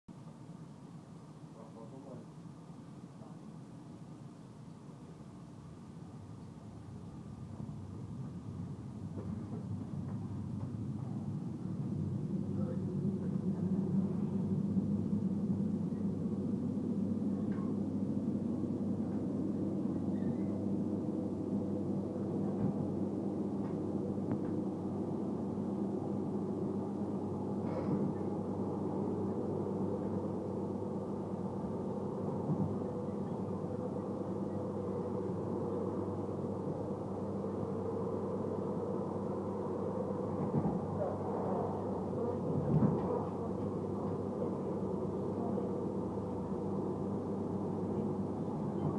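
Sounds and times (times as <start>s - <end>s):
train rumbling in motion: 0.1s - 48.9s
low hum: 6.6s - 48.9s.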